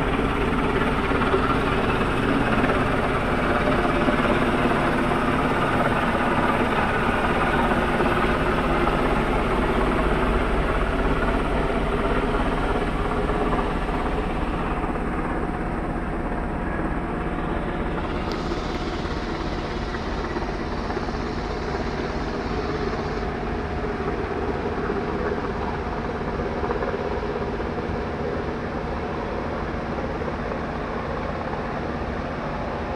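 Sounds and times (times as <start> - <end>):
helicopter flying overhead: 0.0 - 32.9.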